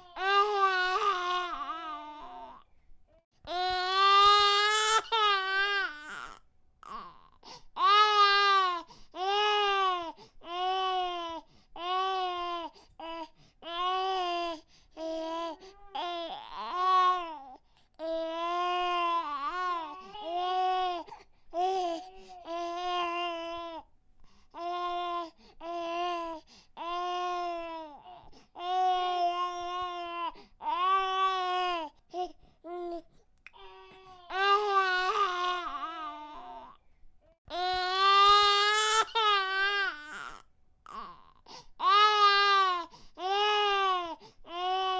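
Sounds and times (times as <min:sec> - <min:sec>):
infant crying: 0:00.0 - 0:02.6, 0:03.5 - 0:23.9, 0:24.6 - 0:33.0, 0:33.6 - 0:36.8, 0:37.5 - 0:44.9.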